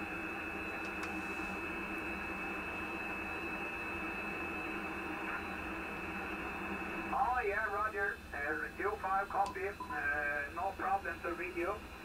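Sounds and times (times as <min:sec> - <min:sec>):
radio band noise hiss: 0:00.0 - 0:12.0.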